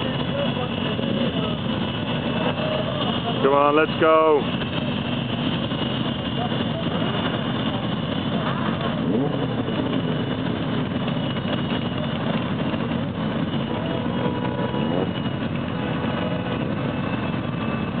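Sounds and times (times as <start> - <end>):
motorcycle engines idling: 0.0 - 18.0
motorcycle revving: 0.0 - 18.0.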